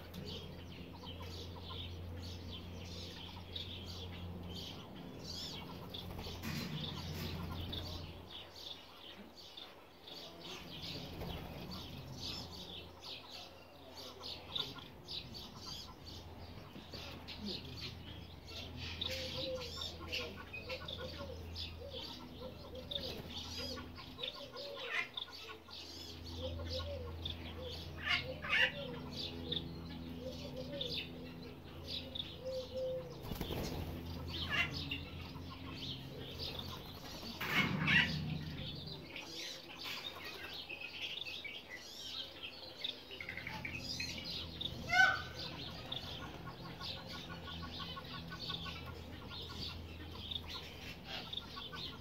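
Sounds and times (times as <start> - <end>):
bird calls: 0.0 - 52.0
ducklings peeping: 0.0 - 52.0.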